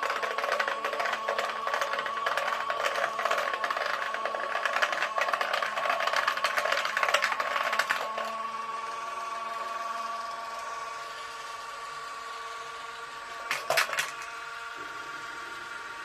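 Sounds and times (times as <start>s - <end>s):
toy washing machine motor whine: 0.0s - 16.0s.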